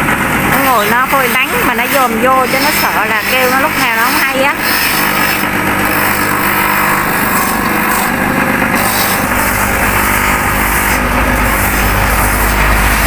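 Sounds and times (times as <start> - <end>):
electric sanding wheel running: 0.0 - 13.0
harsh rasping of sole grinding: 0.6 - 13.0.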